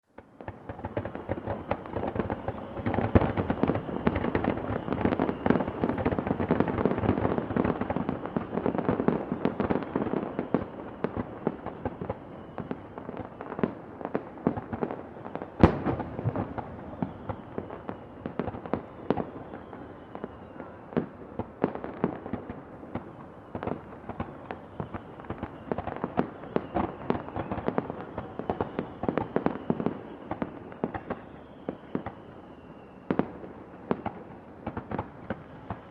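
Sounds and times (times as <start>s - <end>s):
fireworks bangs and pops: 0.1s - 35.9s
falling firework whistles: 0.4s - 35.9s.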